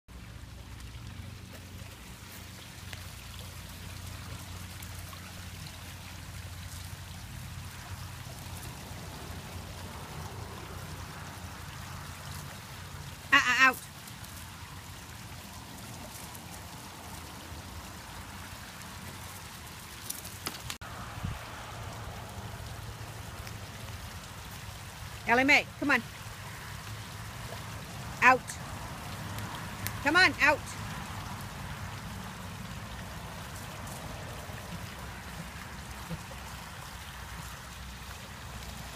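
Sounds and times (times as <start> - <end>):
fountain water spraying: 0.1 - 38.9.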